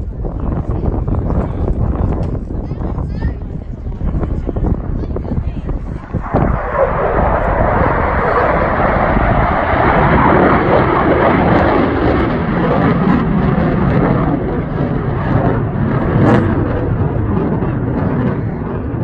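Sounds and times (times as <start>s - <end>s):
jet aircraft flying over: 0.0s - 19.0s.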